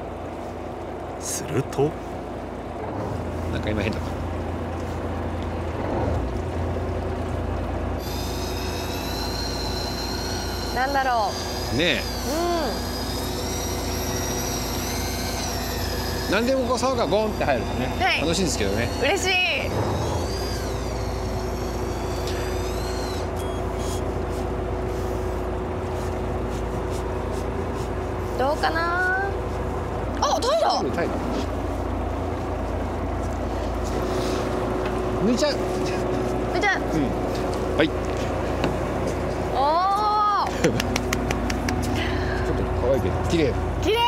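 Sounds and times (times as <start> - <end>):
boat engine humming: 0.0 - 44.0
water: 0.0 - 44.0
high steady whine: 7.7 - 44.0.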